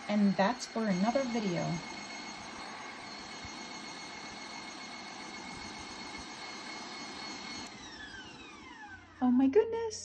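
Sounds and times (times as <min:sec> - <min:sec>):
stand mixer high whine: 0:00.0 - 0:09.5.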